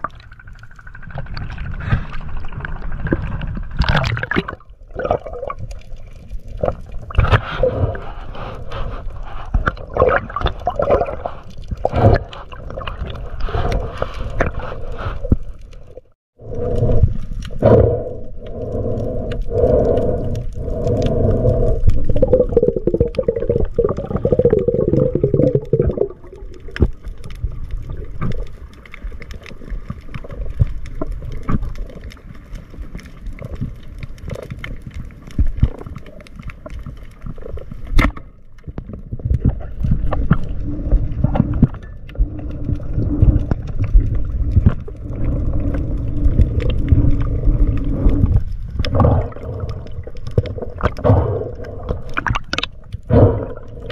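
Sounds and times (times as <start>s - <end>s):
muffled underwater rumbling and gurgling: 0.0s - 53.9s.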